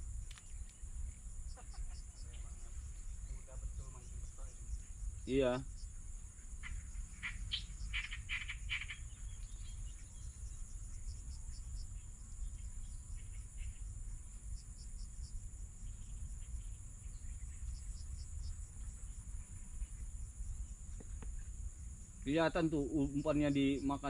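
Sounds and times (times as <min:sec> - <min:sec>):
frogs calling: 0:00.0 - 0:24.0
high insect drone: 0:00.0 - 0:24.0.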